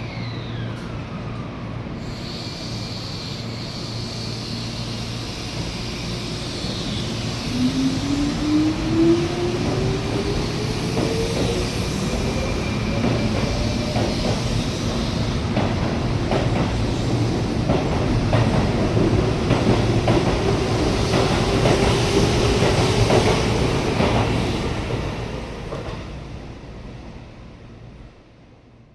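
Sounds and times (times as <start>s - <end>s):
train rumble from inside: 0.0s - 28.9s.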